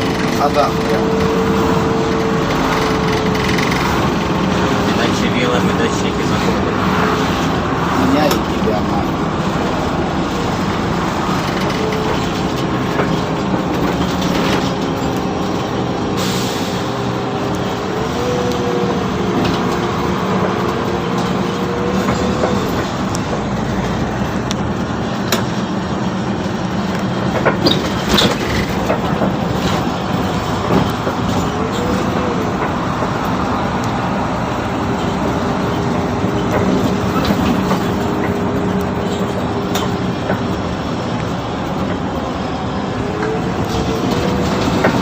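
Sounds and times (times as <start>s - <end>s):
bus driving with road noise: 0.0s - 45.0s.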